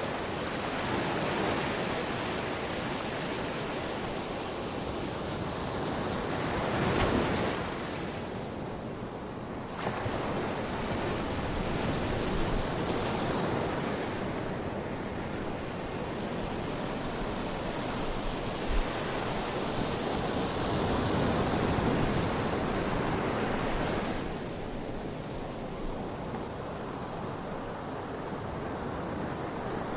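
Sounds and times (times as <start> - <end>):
sea waves breaking on beach: 0.0 - 29.9.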